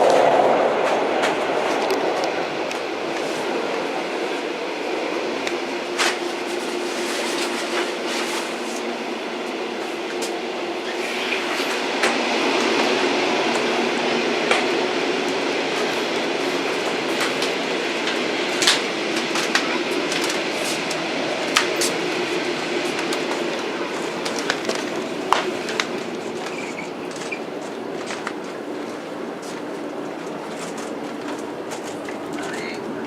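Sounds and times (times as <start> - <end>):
train wheels on rails: 0.0 - 33.0.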